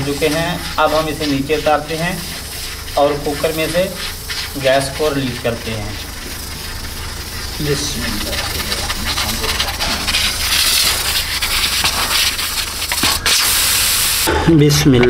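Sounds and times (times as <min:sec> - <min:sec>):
steam hissing from pressure cooker: 0:00.0 - 0:14.3.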